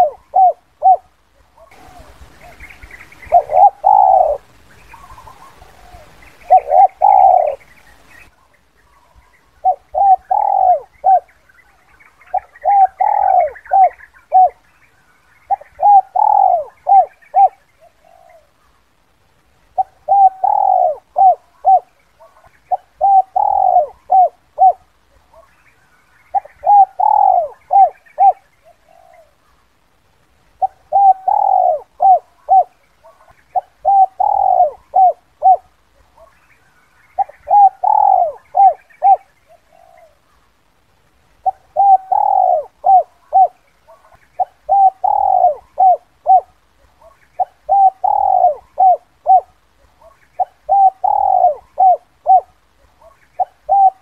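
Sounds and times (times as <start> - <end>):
dove cooing: 0.0 - 11.4, 12.2 - 14.7, 15.5 - 18.6, 19.7 - 25.6, 26.3 - 29.5, 30.6 - 36.4, 37.1 - 40.4, 41.4 - 54.0.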